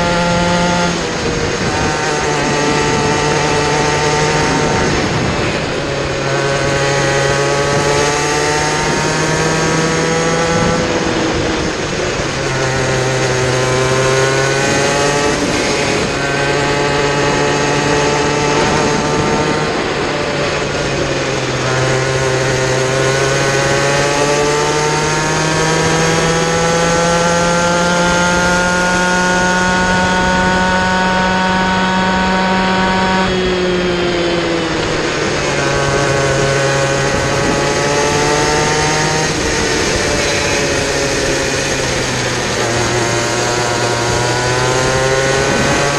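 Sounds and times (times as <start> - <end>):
two-stroke engine racing: 0.0 - 45.9.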